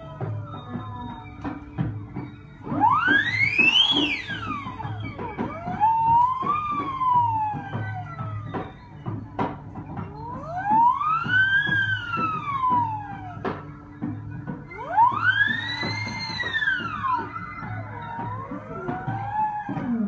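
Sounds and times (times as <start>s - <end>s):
siren-like gliding tone: 0.0s - 20.0s.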